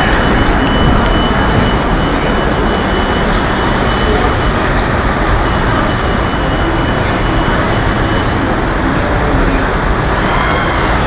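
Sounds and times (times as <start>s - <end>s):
factory mechanical rumble and hiss: 0.0s - 11.0s
faint high whine: 0.0s - 11.0s.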